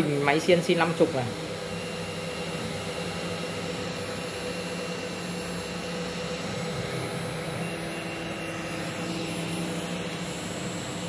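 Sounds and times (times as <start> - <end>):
machine spindle motor drone: 0.0 - 11.0.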